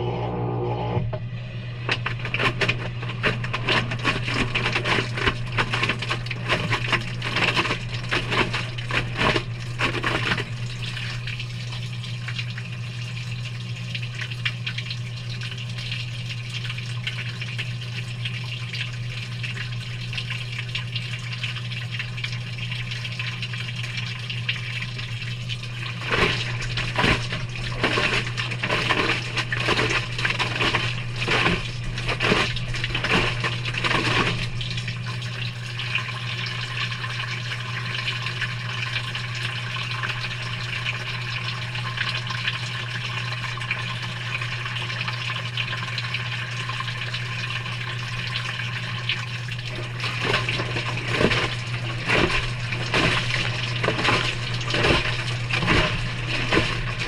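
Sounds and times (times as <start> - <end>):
washing machine low hum: 0.0 - 57.0
water and laundry sloshing in washer: 1.1 - 57.0.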